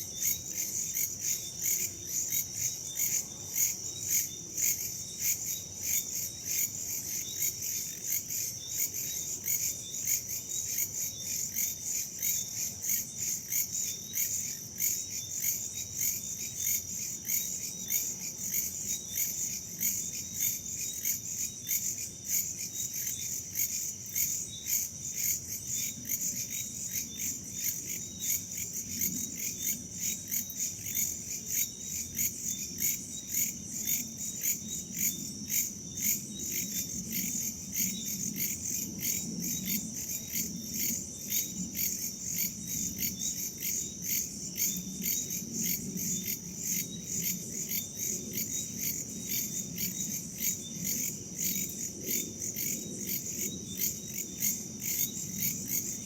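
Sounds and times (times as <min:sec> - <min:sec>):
crickets chirping: 0:00.0 - 0:56.0
other insects: 0:00.0 - 0:56.0.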